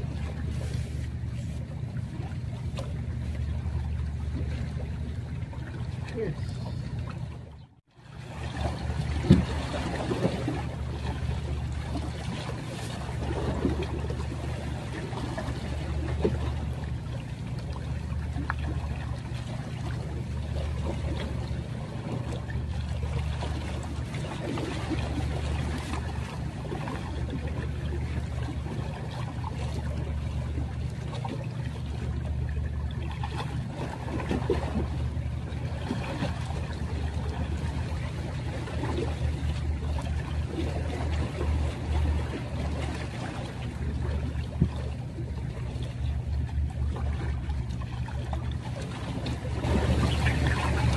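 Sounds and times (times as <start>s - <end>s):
waves lapping against rocks: 0.0s - 7.5s, 8.1s - 50.9s
steady low hum: 0.0s - 50.9s.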